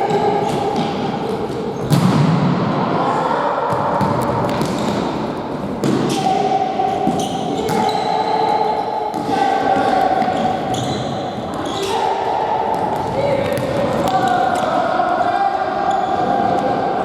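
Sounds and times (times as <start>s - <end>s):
echoing players' voices: 0.0s - 17.0s.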